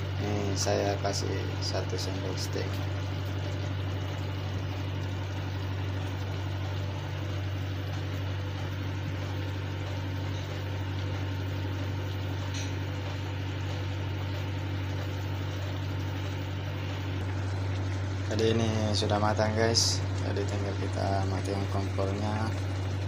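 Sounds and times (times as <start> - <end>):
broth bubbling in a pan: 0.0 - 23.0
steady low hum: 0.0 - 23.0.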